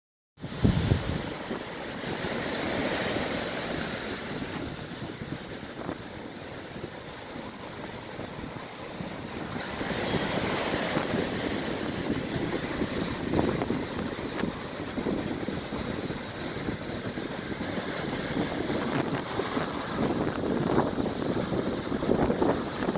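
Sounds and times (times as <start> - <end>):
waves breaking on beach: 0.4 - 22.9
wind buffeting microphone: 0.4 - 22.9.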